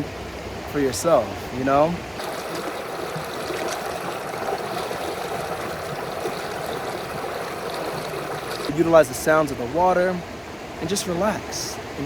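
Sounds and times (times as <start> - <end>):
creek water over rocks: 0.0 - 12.0.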